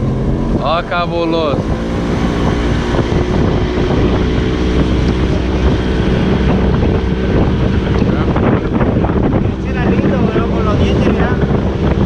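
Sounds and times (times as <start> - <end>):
outboard motor running: 0.0 - 12.0
water rushing past hull: 0.0 - 12.0
wind buffeting microphone: 0.0 - 12.0.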